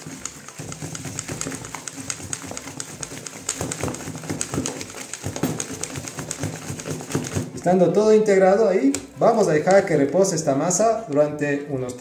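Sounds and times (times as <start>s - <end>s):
whisk clicking against metal bowl: 0.0s - 7.7s, 8.9s - 11.4s.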